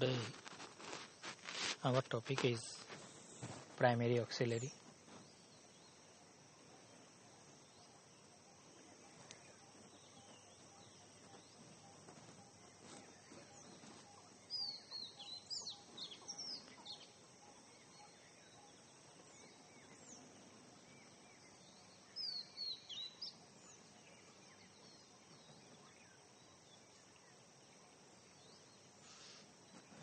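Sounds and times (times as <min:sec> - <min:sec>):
faint steady hiss: 0:00.0 - 0:30.0
small birds chirping: 0:00.0 - 0:30.0.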